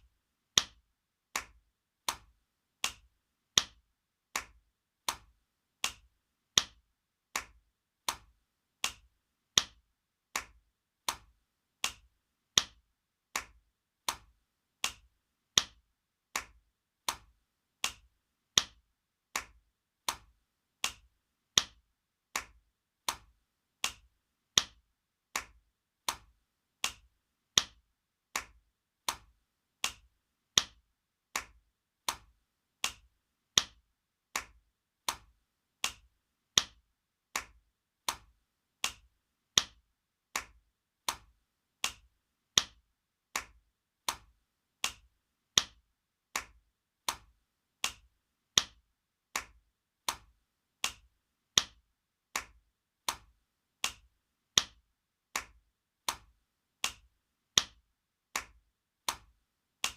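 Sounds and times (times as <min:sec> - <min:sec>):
hand slapping skin: 0:00.6 - 0:54.8, 0:55.4 - 0:59.9.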